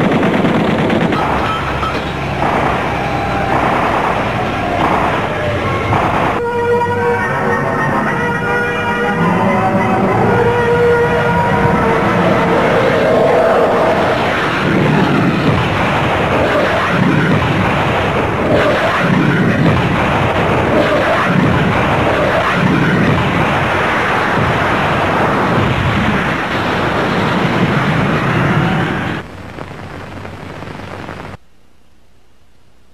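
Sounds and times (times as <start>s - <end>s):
explosions booming: 0.0s - 6.4s, 10.1s - 31.4s
jet aircraft roaring: 0.0s - 29.2s.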